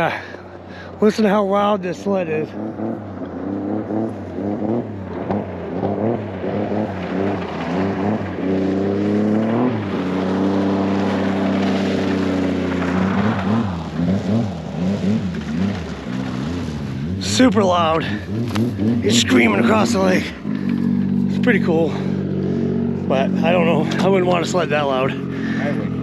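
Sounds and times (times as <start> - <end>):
snowmobile engine revving: 0.0 - 26.0.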